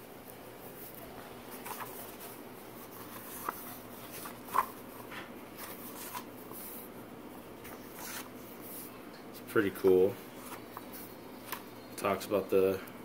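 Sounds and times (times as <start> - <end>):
book pages rustling: 0.2 - 9.0, 9.8 - 11.8.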